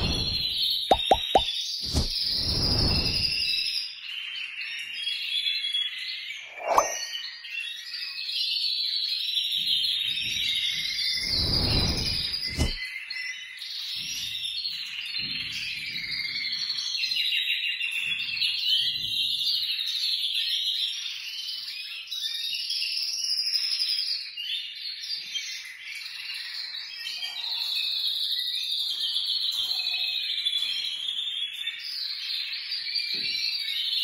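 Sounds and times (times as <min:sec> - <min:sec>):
canaries singing: 0:00.0 - 0:34.0.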